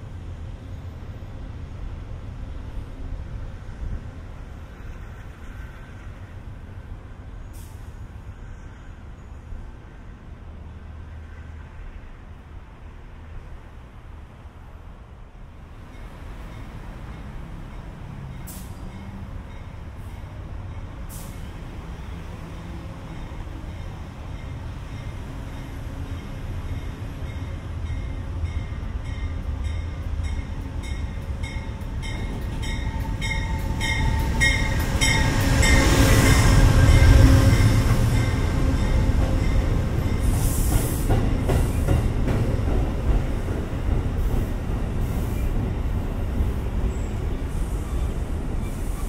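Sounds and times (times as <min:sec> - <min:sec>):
train rumbling past: 0:00.0 - 0:49.0.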